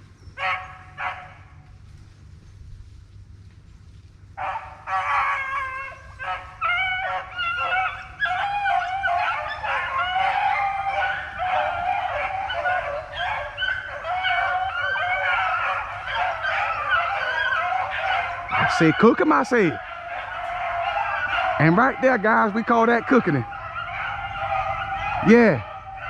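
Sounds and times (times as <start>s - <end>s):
hounds baying: 0.0s - 2.4s, 4.3s - 26.0s.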